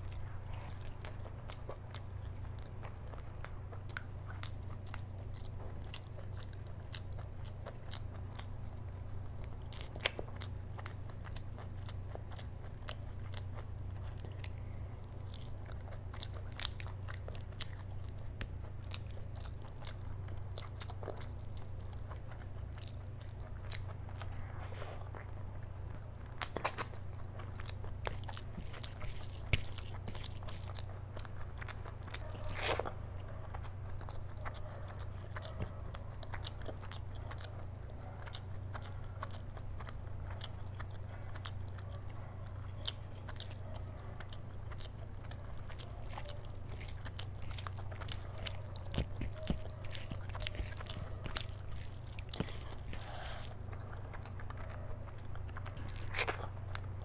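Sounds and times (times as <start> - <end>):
close chewing and mouth clicks: 0.0 - 57.0
steady low hum: 0.0 - 57.0.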